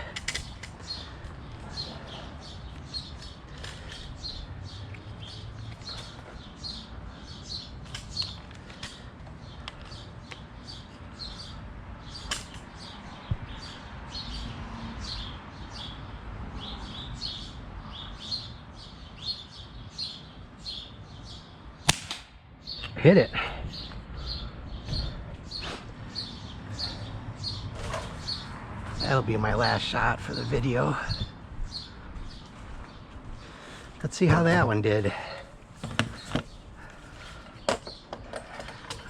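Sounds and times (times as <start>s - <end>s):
bird chirping: 0.0s - 21.9s, 22.6s - 39.0s.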